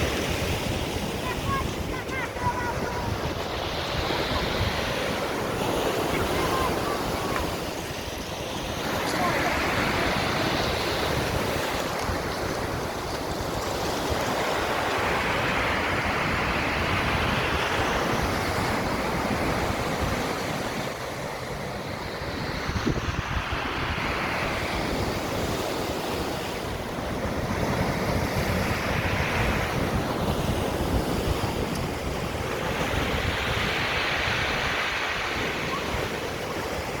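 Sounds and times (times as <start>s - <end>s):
surf breaking on shore: 0.0s - 37.0s
wind rumbling on microphone: 0.0s - 37.0s.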